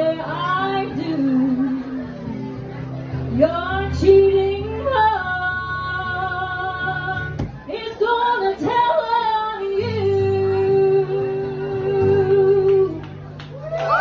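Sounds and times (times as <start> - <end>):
woman singing: 0.0 - 1.9, 3.3 - 13.1
strummed acoustic guitar: 0.0 - 13.4.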